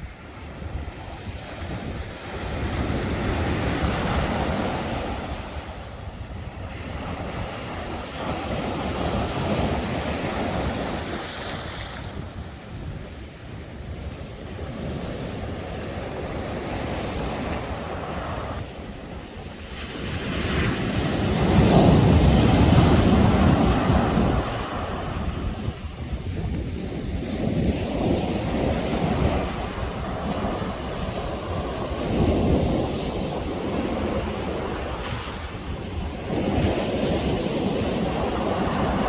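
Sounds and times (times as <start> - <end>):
sea waves breaking on shore: 0.0 - 39.0
wind buffeting microphone: 0.0 - 39.0.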